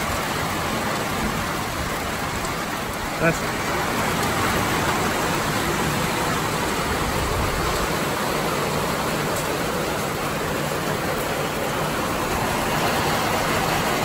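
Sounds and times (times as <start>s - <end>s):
heavy rain on gravel and grass: 0.0s - 14.0s.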